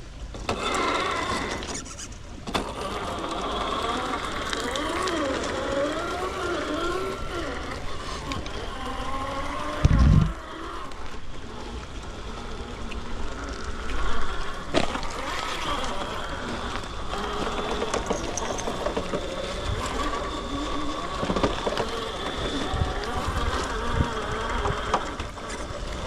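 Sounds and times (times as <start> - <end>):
electric motor whining: 0.4 - 26.0.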